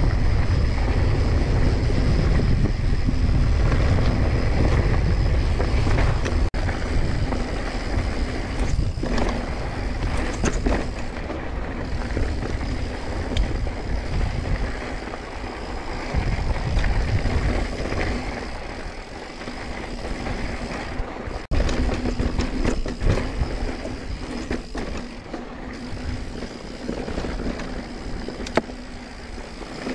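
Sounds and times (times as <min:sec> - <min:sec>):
bike rattling over bumps: 0:00.0 - 0:29.9
wind rumble on microphone: 0:00.0 - 0:29.9.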